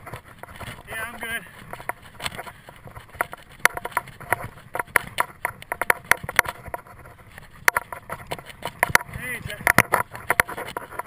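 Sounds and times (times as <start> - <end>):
tyres rumbling on turf: 0.0 - 6.3, 7.7 - 11.0
bike rattling clicks and clacks: 0.0 - 11.0.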